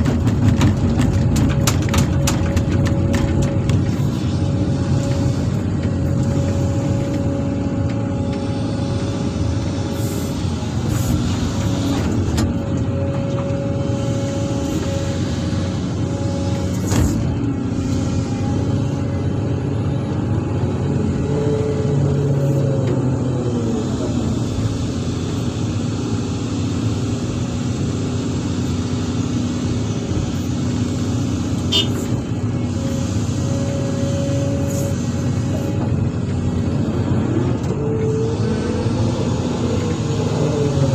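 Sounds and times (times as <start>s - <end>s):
excavator diesel engine running: 0.0s - 40.9s
steady hydraulic whine: 1.1s - 40.9s.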